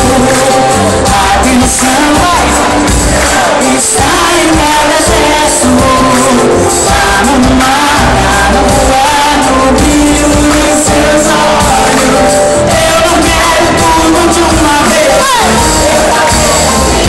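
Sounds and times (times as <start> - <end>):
woman singing: 0.0 - 2.9, 3.6 - 17.0
drums: 0.0 - 17.0
guitar: 0.0 - 17.0
live pop band through speakers: 0.0 - 17.0.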